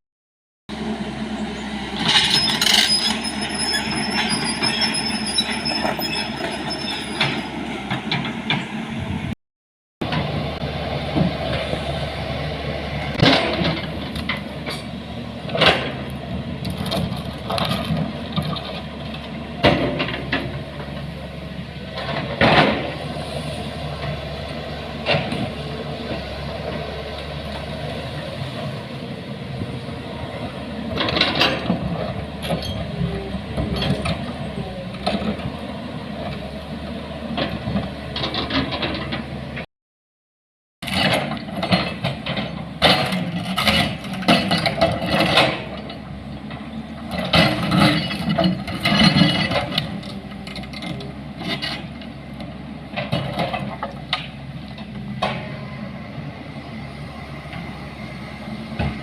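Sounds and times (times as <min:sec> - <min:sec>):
heavy engine running: 0:00.7 - 0:09.4, 0:10.0 - 0:39.7, 0:40.8 - 0:59.0.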